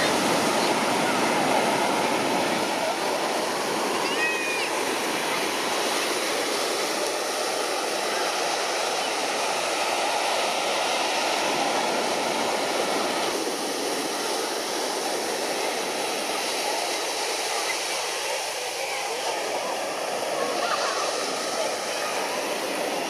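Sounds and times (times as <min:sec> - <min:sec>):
murmur of a crowd: 0:00.0 - 0:23.0
surf: 0:00.0 - 0:23.0.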